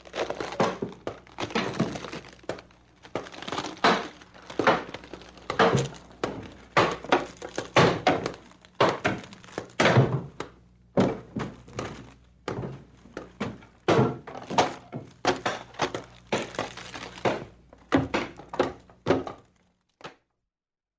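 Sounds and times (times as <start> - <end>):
timbers thunking and cracking: 0.0 - 19.7.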